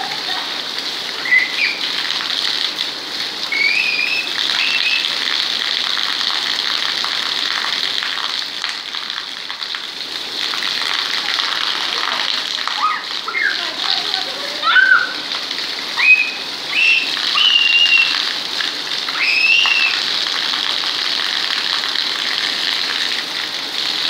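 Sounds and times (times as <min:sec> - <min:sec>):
heavy rain on concrete: 0:00.0 - 0:24.0
water stream splashing on concrete: 0:00.0 - 0:24.0.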